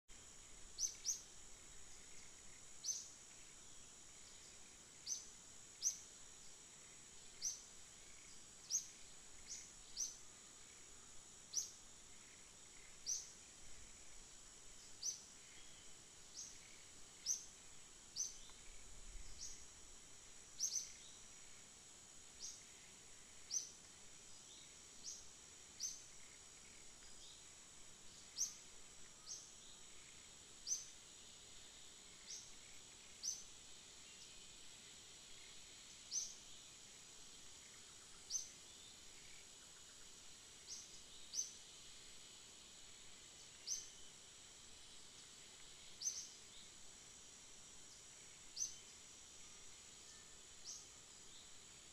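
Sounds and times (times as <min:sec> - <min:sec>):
high-pitched insect drone: 0:00.1 - 0:51.9.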